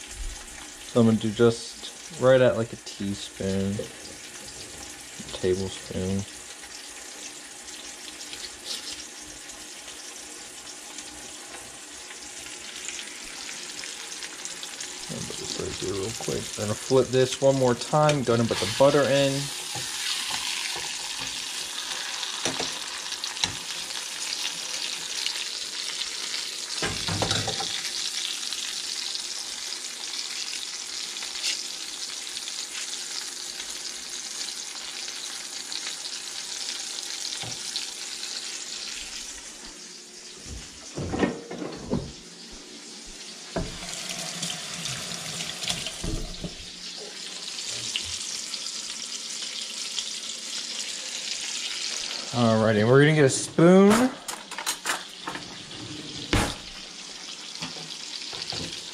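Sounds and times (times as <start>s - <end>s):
steak sizzling in oil: 3.9s - 40.4s, 42.2s - 52.4s, 56.6s - 58.9s.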